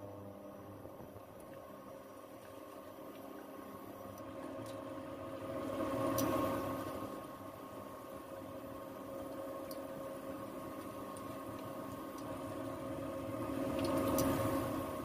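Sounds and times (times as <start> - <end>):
induction cooktop hum: 0.0 - 15.0.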